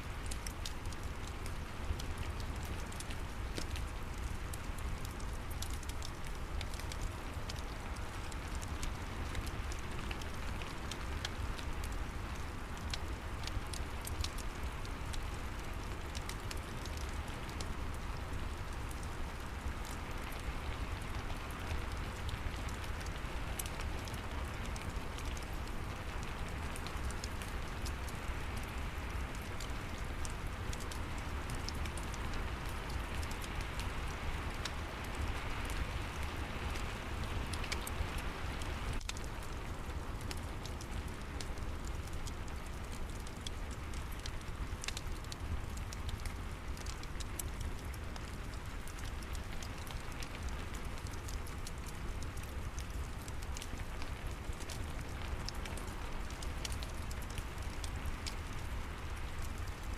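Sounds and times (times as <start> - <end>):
steady rain falling: 0.0 - 59.9
fireplace crackling: 0.1 - 59.9.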